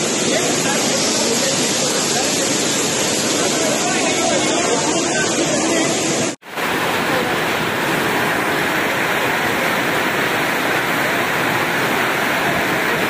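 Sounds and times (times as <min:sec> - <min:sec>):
gusting wind: 0:00.0 - 0:13.0
heavy rain downpour: 0:00.0 - 0:13.0.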